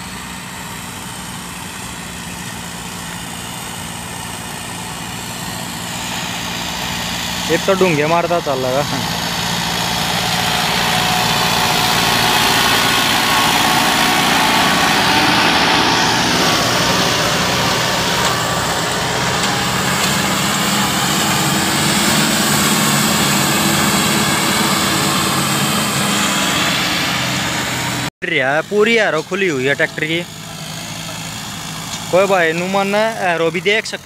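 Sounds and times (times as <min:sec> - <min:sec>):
tractor diesel engine under load: 0:00.0 - 0:34.0.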